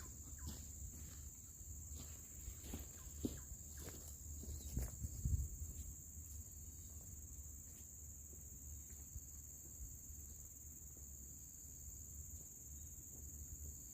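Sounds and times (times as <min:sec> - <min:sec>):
insects droning shrilly: 0:00.0 - 0:13.9.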